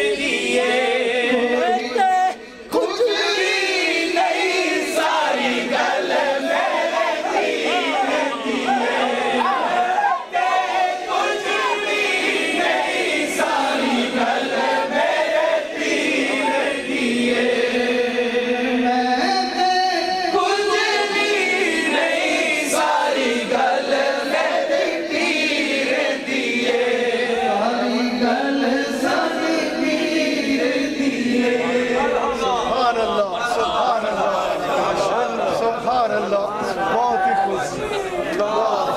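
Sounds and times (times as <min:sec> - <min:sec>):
men chanting together: 0:00.0 - 0:38.9.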